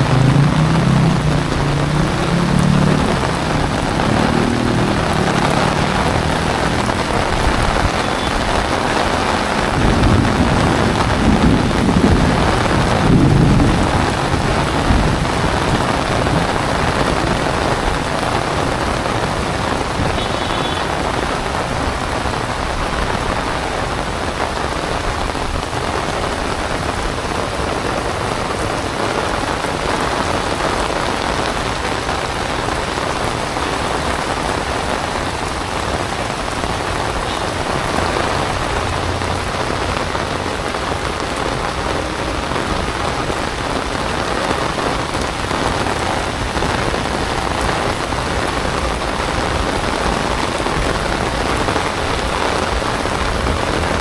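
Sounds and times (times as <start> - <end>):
heavy rain on paving and plants: 0.0 - 54.0
rain on an umbrella: 0.0 - 54.0.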